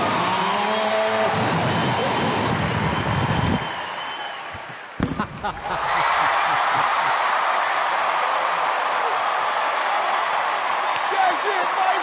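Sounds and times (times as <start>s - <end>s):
audience cheering: 0.0s - 12.0s
studio audience applauding: 0.1s - 12.0s.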